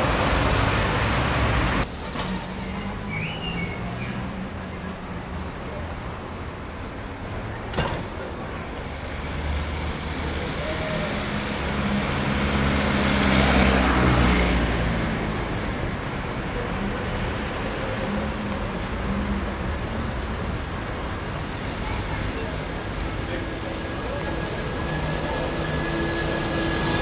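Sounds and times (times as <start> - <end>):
city street traffic: 0.0 - 27.0.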